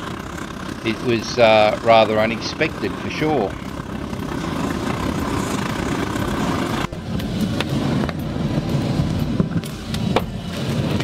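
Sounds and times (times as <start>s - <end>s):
roar of burner flame and blower: 0.0s - 11.0s.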